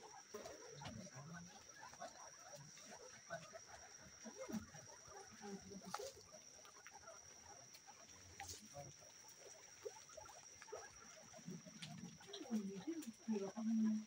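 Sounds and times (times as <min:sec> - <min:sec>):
guinea pigs chewing: 0:00.0 - 0:14.0
guinea pigs rustling in grass: 0:00.0 - 0:14.0.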